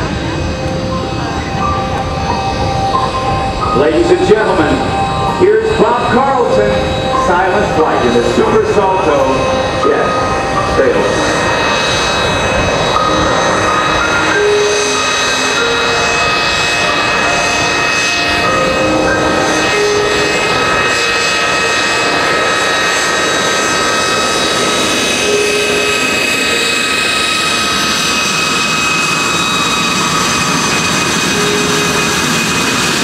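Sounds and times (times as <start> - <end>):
jet engine rushing: 0.0 - 33.0
jet engine whining tones: 0.0 - 33.0.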